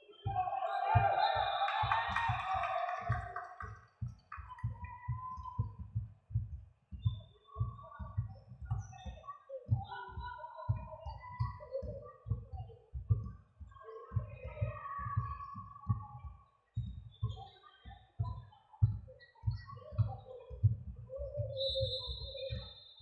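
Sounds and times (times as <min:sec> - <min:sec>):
music with thumping beat: 0:00.2 - 0:23.0.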